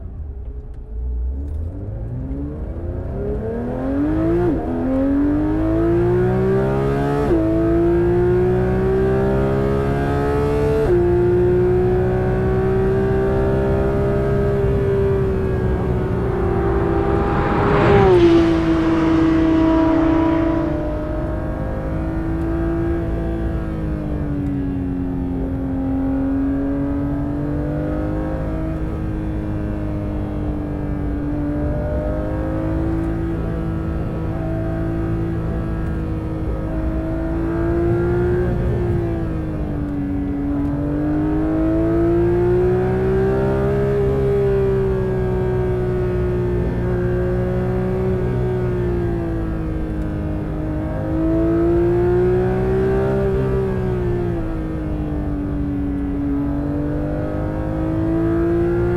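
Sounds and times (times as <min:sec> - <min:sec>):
car engine running: 0:05.6 - 0:58.9.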